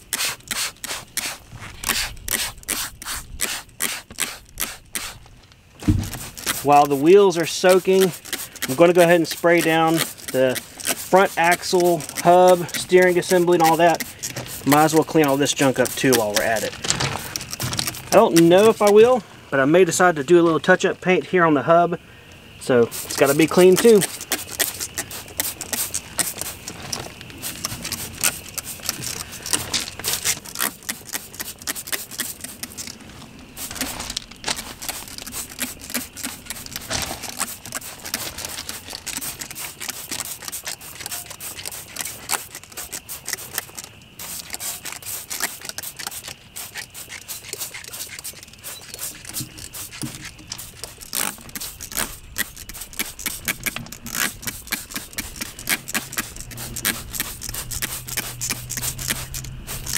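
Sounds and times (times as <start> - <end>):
spray bottle spritzing: 0.0 - 19.0, 22.9 - 59.9.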